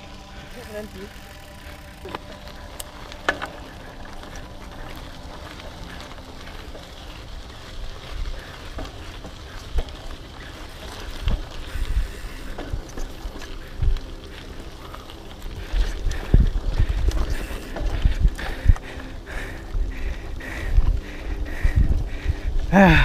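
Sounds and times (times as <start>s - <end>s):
bike tyres rattling on dirt: 0.0s - 23.0s
wind buffeting microphone: 0.0s - 23.0s.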